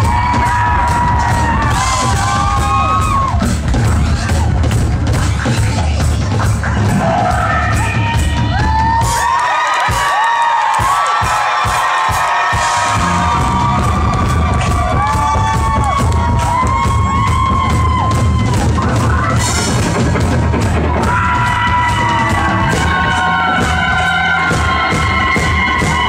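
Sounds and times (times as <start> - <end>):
bass guitar: 0.0 - 9.1, 12.6 - 26.0
drums: 0.0 - 26.0.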